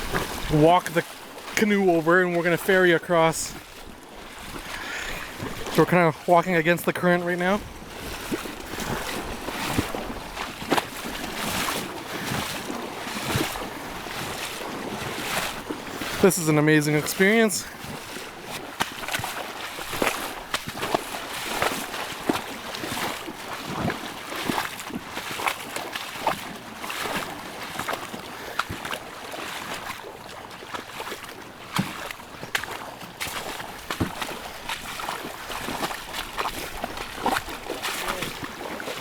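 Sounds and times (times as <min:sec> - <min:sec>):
river water splashing: 0:00.0 - 0:39.0.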